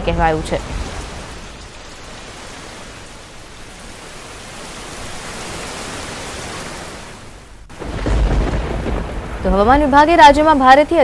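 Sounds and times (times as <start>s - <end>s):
heavy rain hiss: 0.0s - 11.0s.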